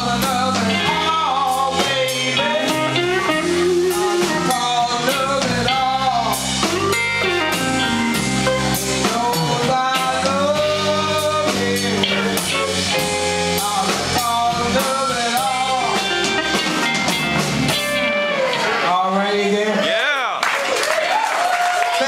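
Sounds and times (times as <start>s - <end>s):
electric guitar: 0.0s - 19.0s
blues band playing: 0.0s - 20.6s.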